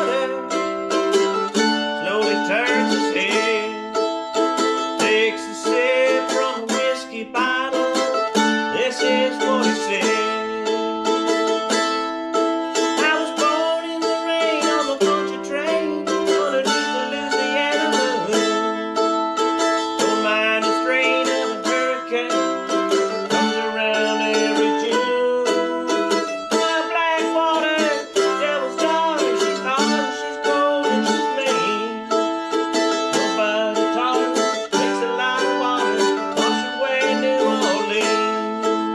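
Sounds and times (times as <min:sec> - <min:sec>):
mandolin picked melody: 0:00.0 - 0:38.9.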